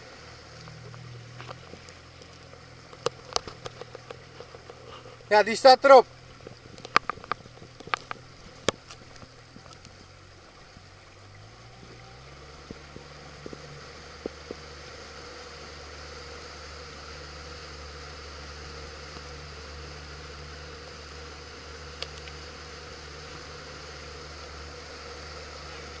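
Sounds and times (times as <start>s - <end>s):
boat motor humming: 0.0s - 26.0s
water lapping at hull: 0.0s - 26.0s.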